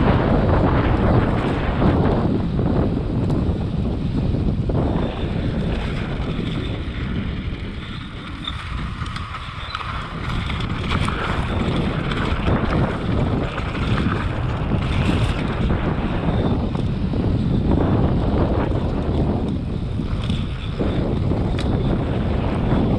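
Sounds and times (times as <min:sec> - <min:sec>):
bike tyres crunching on dirt: 0:00.0 - 0:22.9
wind buffeting microphone: 0:00.0 - 0:22.9.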